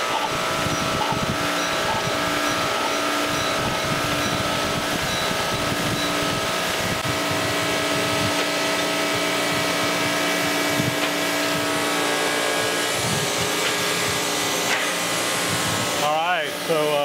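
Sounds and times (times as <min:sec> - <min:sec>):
surface grinder humming: 0:00.0 - 0:17.0.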